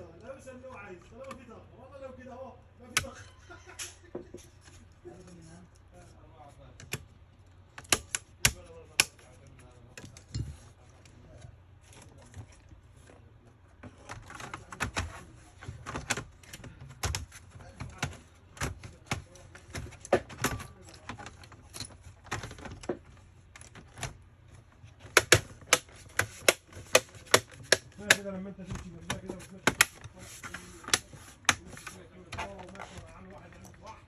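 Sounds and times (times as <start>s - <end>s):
clicks and knocks from laptop repair: 2.8s - 5.0s, 6.8s - 7.1s, 7.7s - 13.2s, 13.8s - 34.0s.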